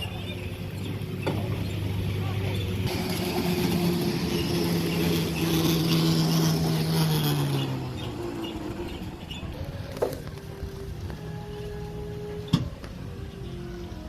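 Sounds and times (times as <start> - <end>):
motor hum: 0.0 - 14.0.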